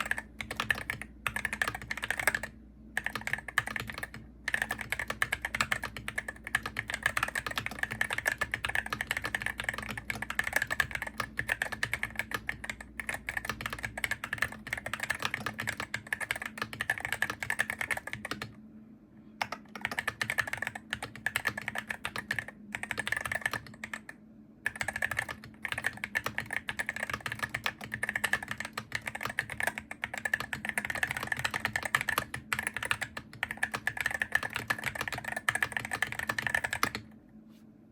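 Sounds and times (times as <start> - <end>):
fast typing key clicks: 0.0 - 18.5, 19.4 - 24.1, 24.7 - 37.1.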